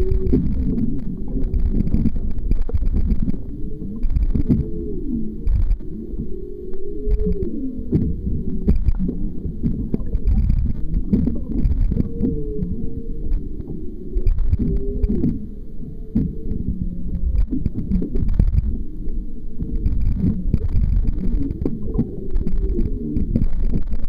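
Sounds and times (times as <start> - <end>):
whale song calls: 0.0 - 0.8, 3.0 - 23.8
low underwater rumble: 0.0 - 24.0.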